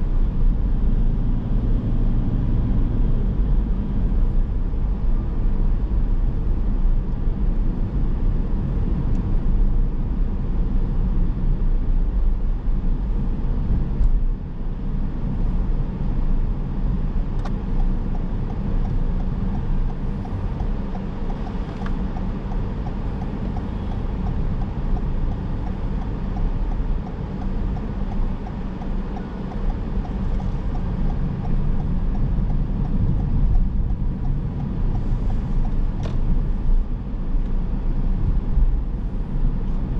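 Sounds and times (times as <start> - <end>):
low engine rumble: 0.0 - 39.9
road and tyre noise: 0.0 - 39.9.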